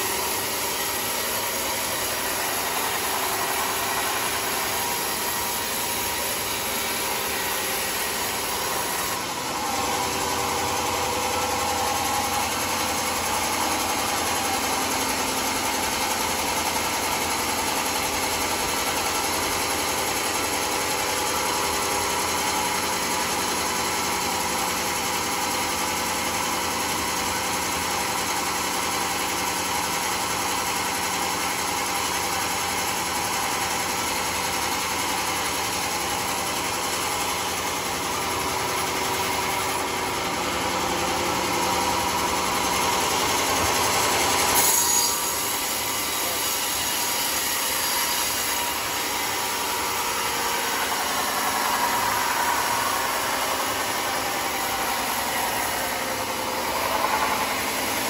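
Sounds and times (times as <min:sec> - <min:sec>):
band sawmill running: 0:00.0 - 0:58.0.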